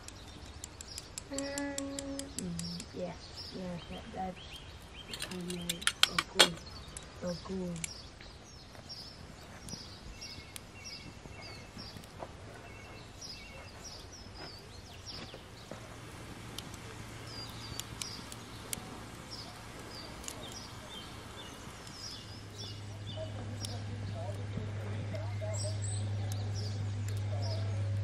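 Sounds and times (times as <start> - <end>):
campfire crackling and popping: 0.0 - 28.0
low steady hum: 0.0 - 28.0
small birds chirping: 0.0 - 28.0.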